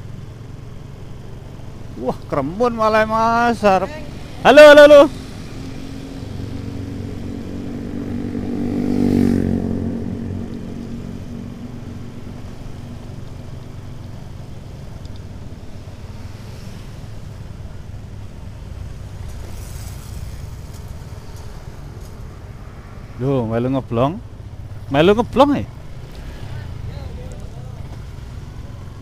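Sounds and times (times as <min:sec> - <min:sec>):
motorcycle engine running: 0:00.0 - 0:22.7, 0:24.2 - 0:29.0
road and wind noise: 0:00.0 - 0:29.0.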